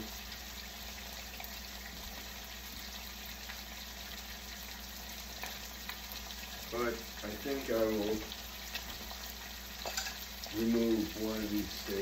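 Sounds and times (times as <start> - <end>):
steaks sizzling in frying pan: 0.0 - 12.0.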